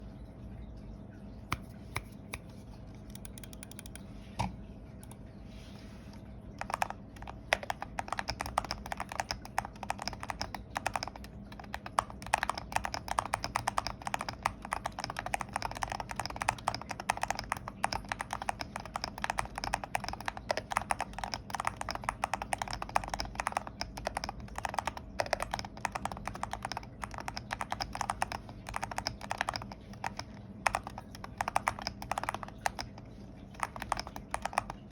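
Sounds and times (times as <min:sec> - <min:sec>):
keyboard typing: 0:01.5 - 0:05.2, 0:06.2 - 0:34.9.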